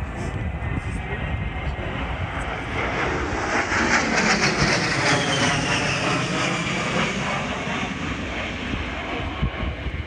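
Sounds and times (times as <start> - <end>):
jet flyby roar with whine: 0.0 - 10.0.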